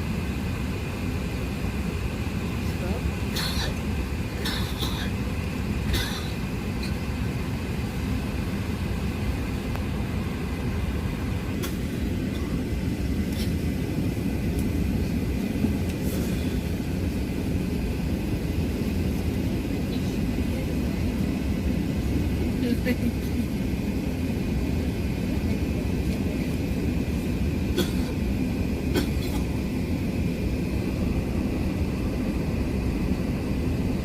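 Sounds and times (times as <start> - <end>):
aircraft cabin rumble: 0.0 - 34.0.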